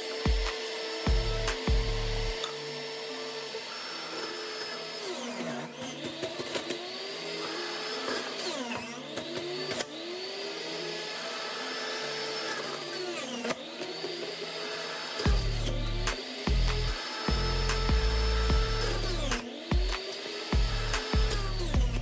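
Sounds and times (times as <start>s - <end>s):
juicer motor whine: 0.0s - 22.0s.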